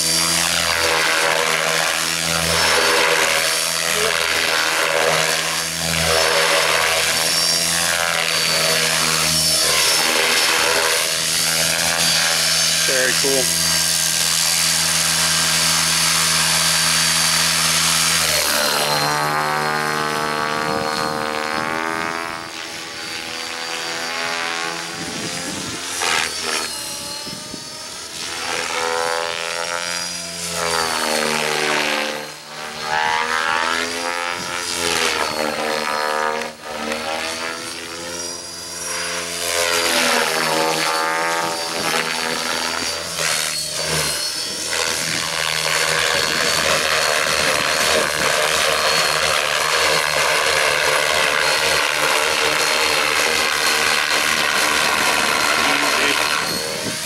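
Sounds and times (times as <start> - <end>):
rc helicopter rotor and motor hum: 0.0 - 57.0.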